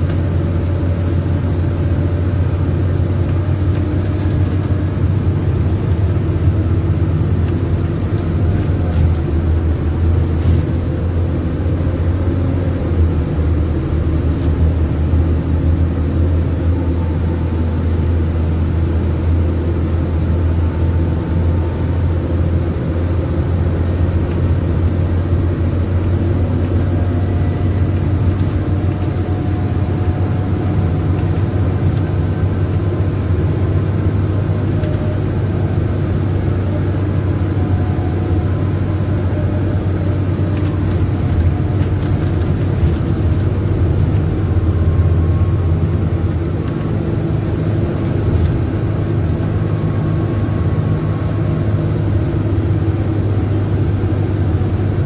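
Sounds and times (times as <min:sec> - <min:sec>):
bus engine drone: 0:00.0 - 0:55.0
road noise: 0:00.0 - 0:55.0.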